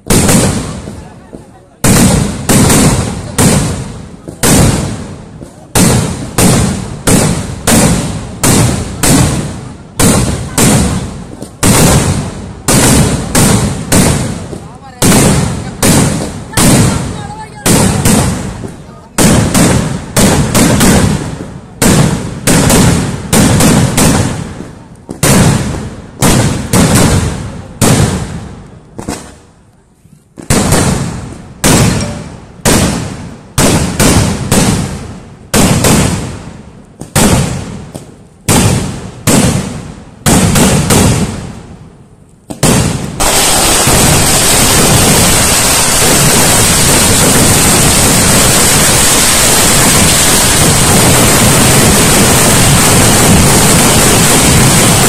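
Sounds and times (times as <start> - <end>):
fireworks loud bangs: 0.0 - 29.6, 30.3 - 55.0
loud rushing firework noise: 0.0 - 29.6, 30.3 - 55.0.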